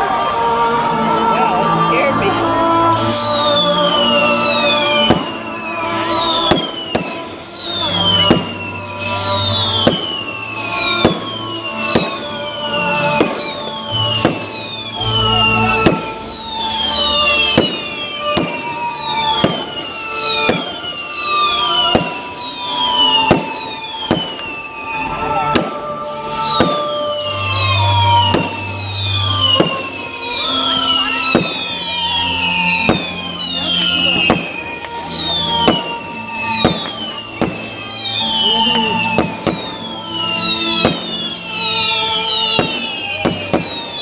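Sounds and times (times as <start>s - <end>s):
fireworks bangs: 0.0s - 44.0s
music playing: 0.0s - 44.0s
falling firework whistles: 1.5s - 44.0s.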